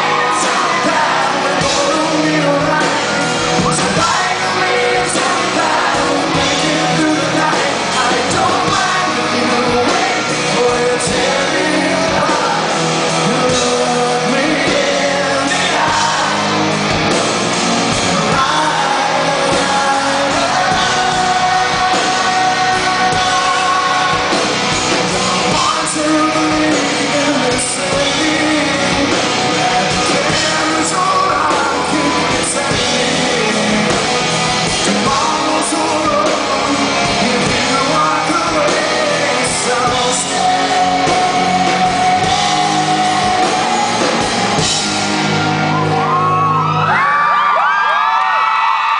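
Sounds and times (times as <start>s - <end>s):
person singing: 0.0s - 17.4s, 18.0s - 47.0s
live rock band playing: 0.0s - 48.9s.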